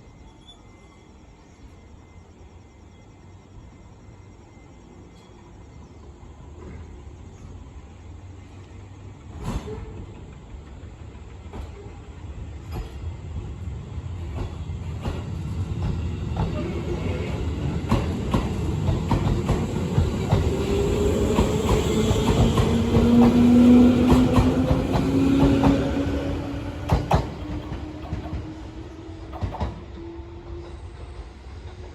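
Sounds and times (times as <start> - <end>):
low train rumble: 0.0 - 31.9.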